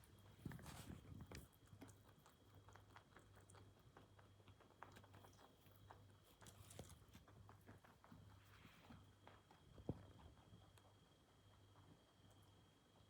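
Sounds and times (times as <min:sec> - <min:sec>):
rabbit drinking water: 0:00.0 - 0:13.0.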